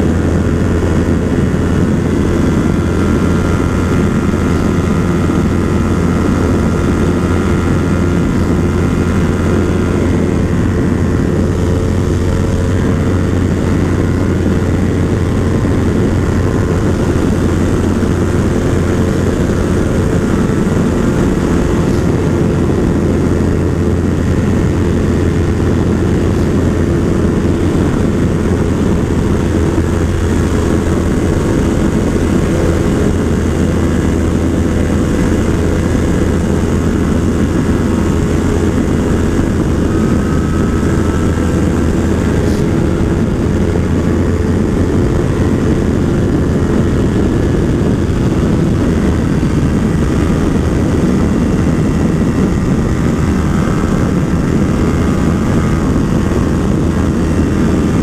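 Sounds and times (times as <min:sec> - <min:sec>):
motorcycle engine at high revs: 0:00.0 - 0:58.0
wind rushing over microphone: 0:00.0 - 0:58.0.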